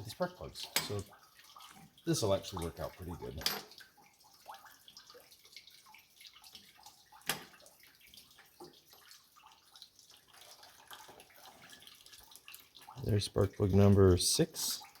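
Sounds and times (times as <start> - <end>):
faint liquid trickle: 0.0 - 15.0.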